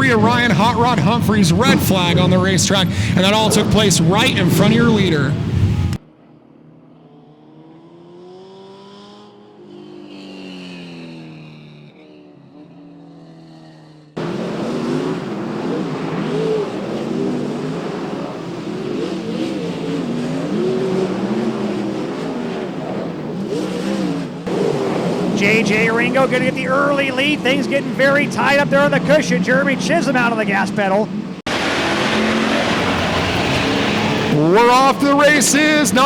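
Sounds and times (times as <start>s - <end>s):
race car engines: 0.0s - 36.0s.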